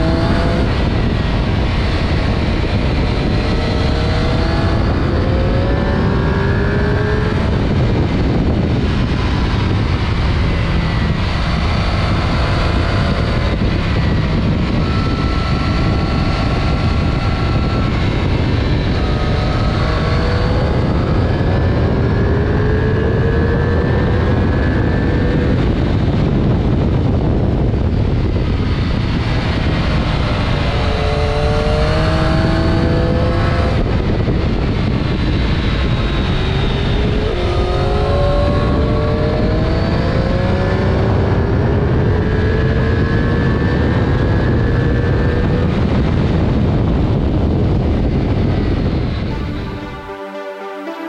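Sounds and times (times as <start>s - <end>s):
motorcycle engine accelerating: 0.0s - 50.3s
wind rush: 0.0s - 50.7s.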